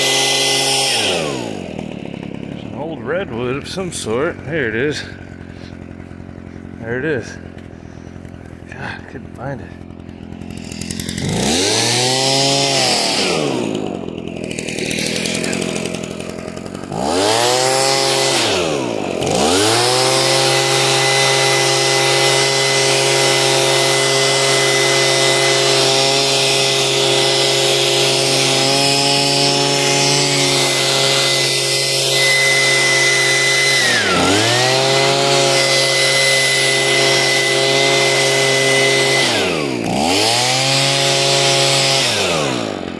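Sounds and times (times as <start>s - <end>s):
leaf blower engine revving: 0.0s - 42.9s.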